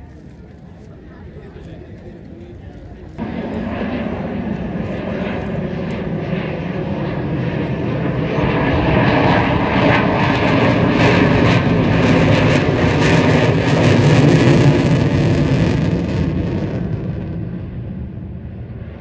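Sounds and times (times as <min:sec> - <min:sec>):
military plane roaring past: 0:03.1 - 0:19.0.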